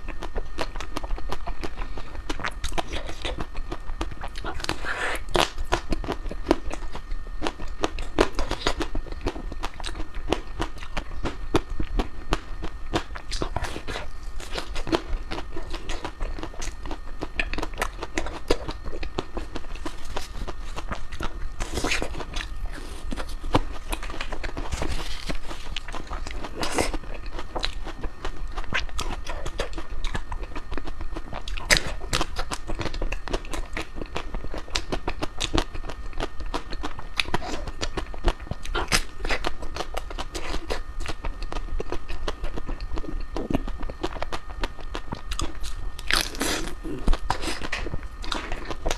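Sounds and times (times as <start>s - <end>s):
crunchy chewing and biting: 0.0s - 48.9s.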